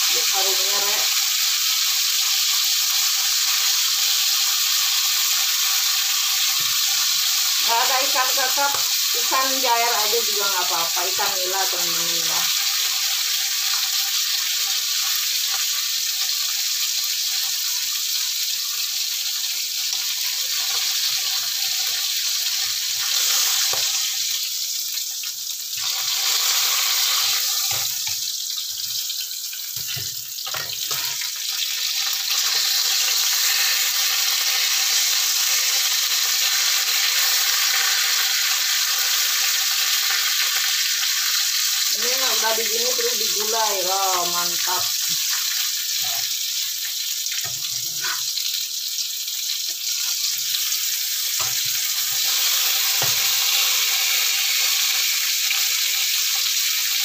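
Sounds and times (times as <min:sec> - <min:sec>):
fish deep-frying in oil: 0:00.0 - 0:57.0.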